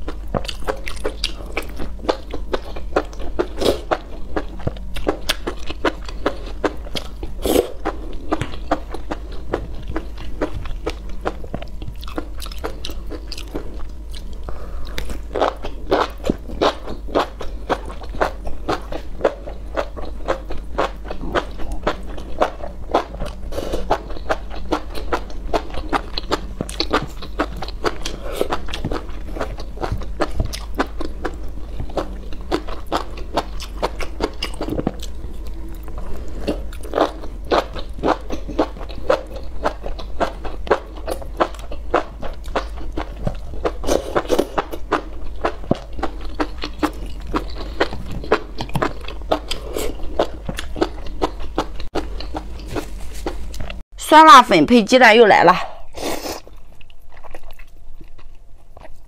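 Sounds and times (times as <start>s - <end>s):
chewing with wet smacks and crunches: 0.0s - 53.8s, 56.4s - 59.0s.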